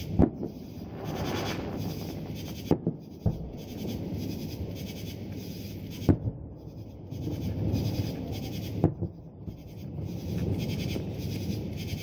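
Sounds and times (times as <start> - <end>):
fireworks bursting in the distance: 0.0 - 12.0.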